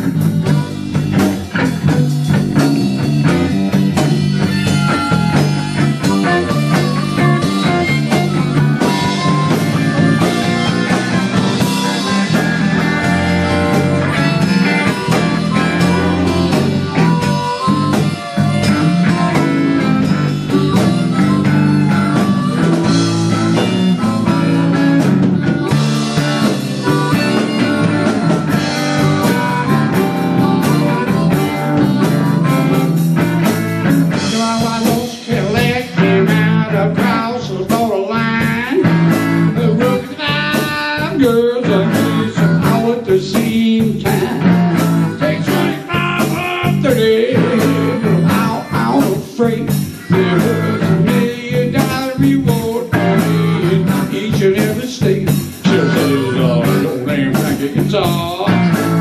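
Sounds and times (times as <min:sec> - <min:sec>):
drums: 0:00.0 - 0:59.0
electric bass: 0:00.0 - 0:59.0
electric guitar: 0:00.0 - 0:59.0
lead guitar bending notes: 0:00.0 - 0:59.0.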